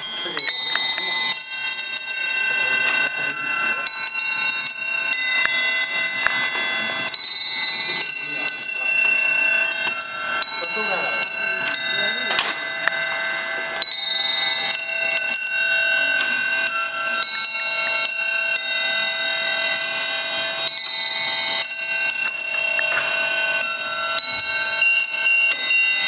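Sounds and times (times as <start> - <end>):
musical clock bells chiming: 0.0 - 26.0.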